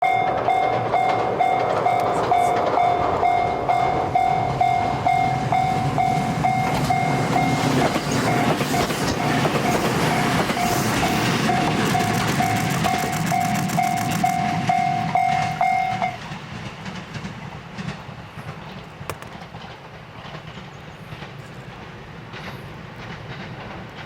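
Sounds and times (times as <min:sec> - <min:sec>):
electric train rumble and wheel clatter: 0:00.0 - 0:24.0.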